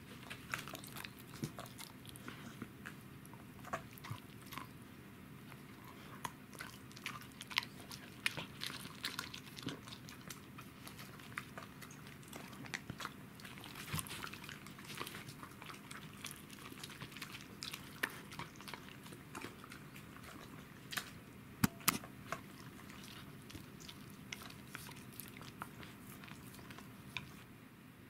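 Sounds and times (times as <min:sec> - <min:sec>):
dog chewing bone: 0:00.0 - 0:04.8, 0:05.4 - 0:27.4.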